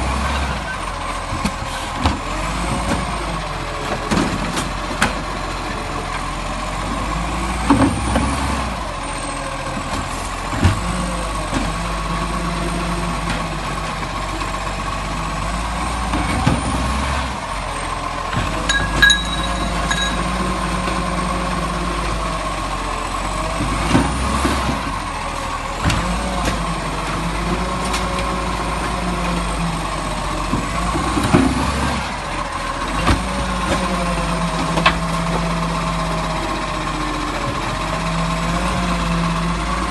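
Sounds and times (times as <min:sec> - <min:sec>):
garbage truck engine whining: 0:00.0 - 0:39.9.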